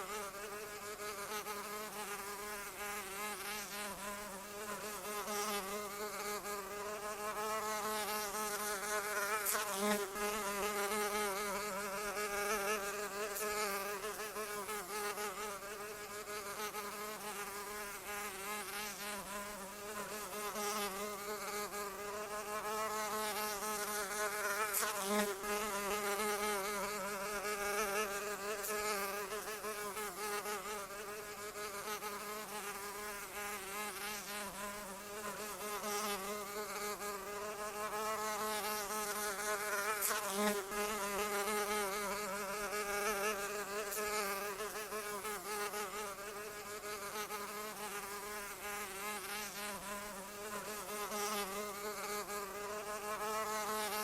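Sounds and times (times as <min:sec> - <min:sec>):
flying insect buzzing: 0:00.0 - 0:54.0.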